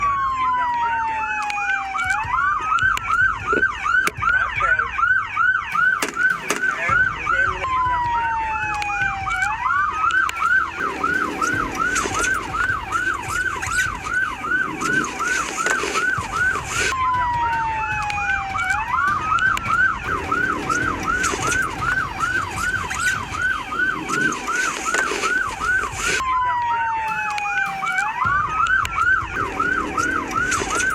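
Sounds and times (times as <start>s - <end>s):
police car siren: 0.0s - 30.9s.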